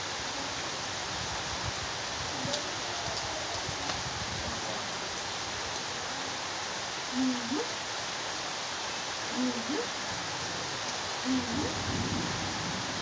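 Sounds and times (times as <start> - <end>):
heavy rain on foliage: 0.0 - 13.0.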